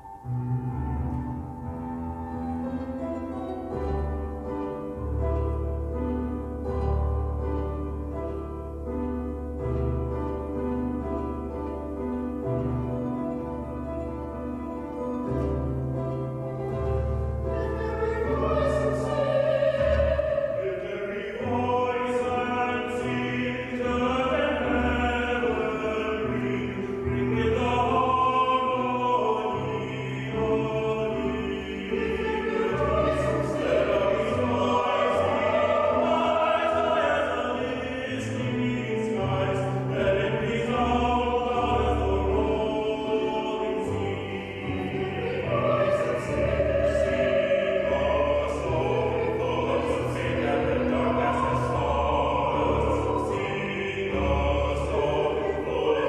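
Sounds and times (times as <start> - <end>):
choir singing with accompaniment: 0.0 - 56.0.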